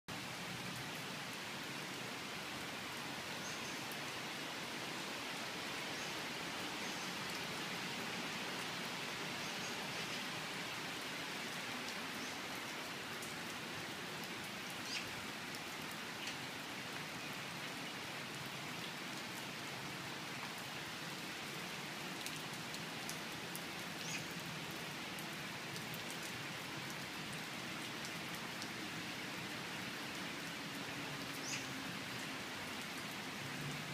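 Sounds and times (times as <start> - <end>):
rain on paving and trees: 0.1 - 33.9.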